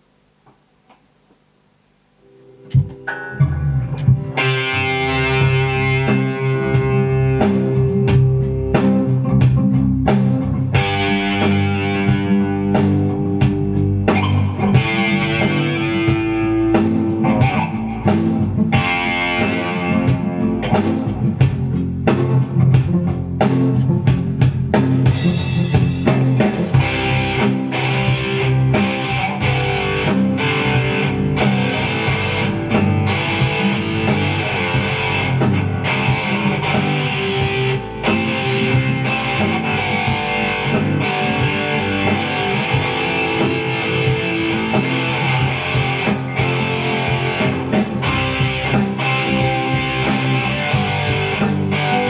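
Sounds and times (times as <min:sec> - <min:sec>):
guitar plucking and strumming: 0:02.2 - 0:52.0
steady beat: 0:02.5 - 0:52.0.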